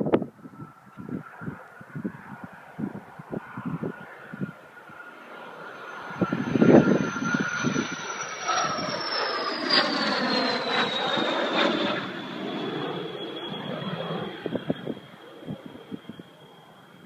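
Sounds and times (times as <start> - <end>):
jet flying past roaring: 0.0 - 17.0.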